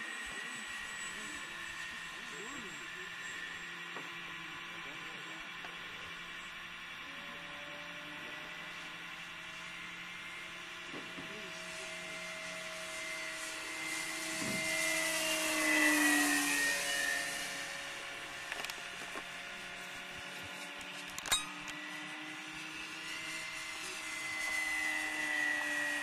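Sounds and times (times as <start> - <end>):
model plane motor whining: 0.0 - 26.0.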